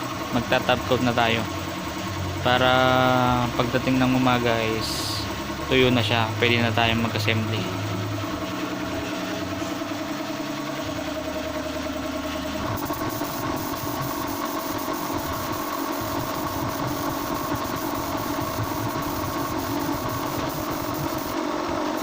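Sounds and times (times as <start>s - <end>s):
air compressor motor running: 0.0s - 22.0s.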